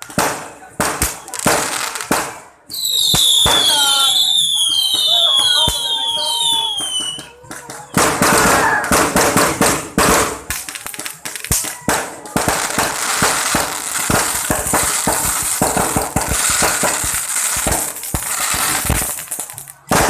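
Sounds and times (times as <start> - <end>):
firecrackers banging and crackling: 0.0 - 20.0.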